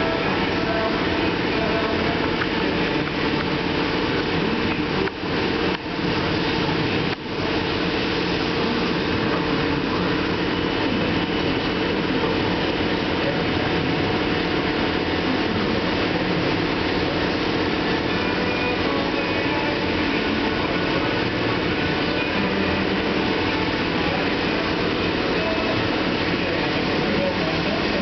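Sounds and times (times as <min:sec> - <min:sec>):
loud rush of air: 0:00.0 - 0:28.0.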